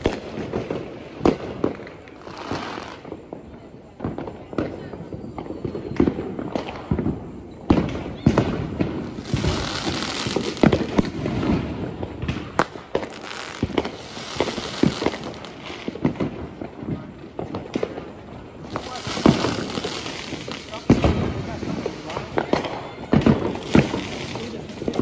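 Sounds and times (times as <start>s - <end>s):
crackling hiss: 0.0s - 25.0s
fireworks popping and banging: 0.0s - 25.0s.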